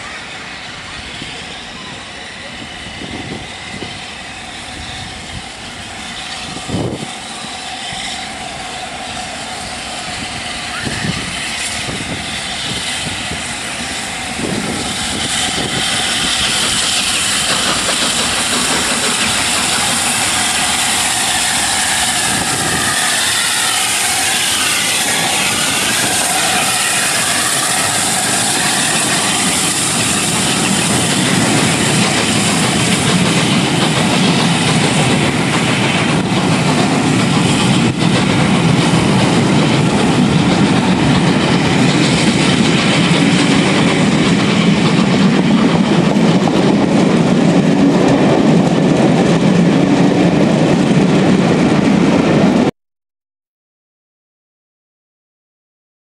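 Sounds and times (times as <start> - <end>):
steam train passing: 0.0 - 52.7.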